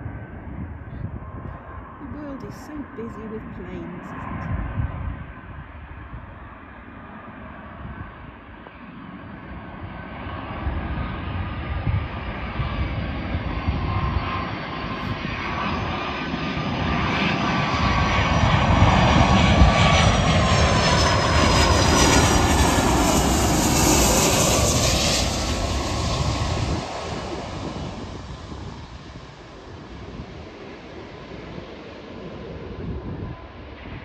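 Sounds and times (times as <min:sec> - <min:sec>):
jet airliner passing low: 0:00.0 - 0:34.0.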